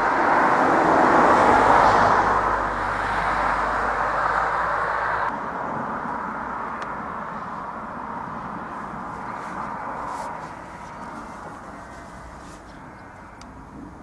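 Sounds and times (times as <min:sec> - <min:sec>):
outdoor noise: 0:00.0 - 0:14.0
train passing with engine rush: 0:00.0 - 0:14.0.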